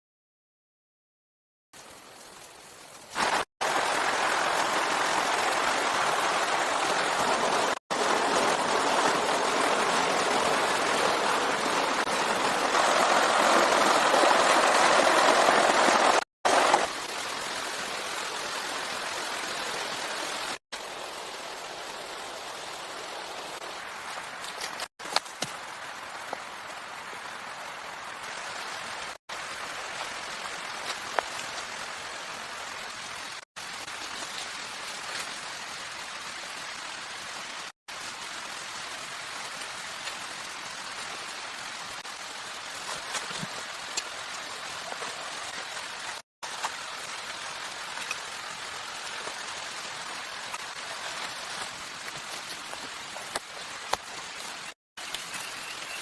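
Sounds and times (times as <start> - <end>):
water rushing: 1.8 - 56.0.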